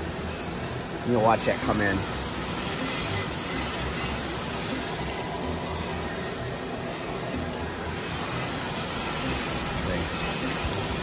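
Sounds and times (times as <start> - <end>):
grinding machine running: 0.0 - 11.0.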